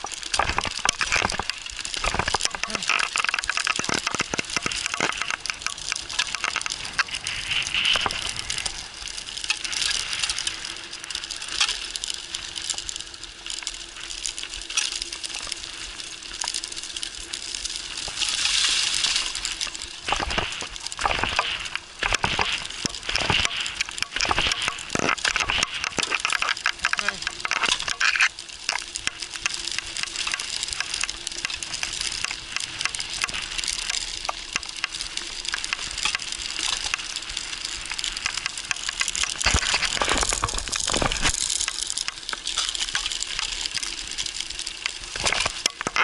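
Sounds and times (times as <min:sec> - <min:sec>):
bike rattling and clicking: 0:00.0 - 0:46.0
tyres crunching over gravel: 0:00.0 - 0:46.0.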